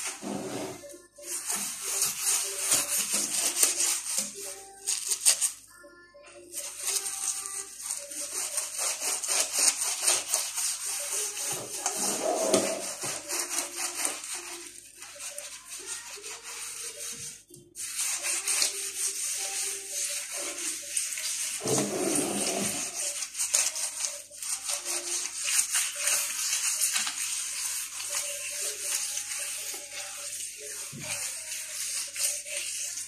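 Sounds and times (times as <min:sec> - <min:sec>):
scouring pad scrubbing tiles: 0:00.0 - 0:05.6, 0:06.4 - 0:33.0.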